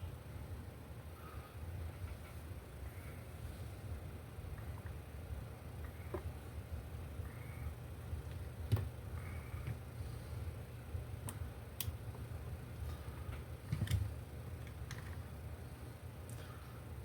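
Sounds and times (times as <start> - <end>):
fluorescent light hum: 0.0 - 17.0.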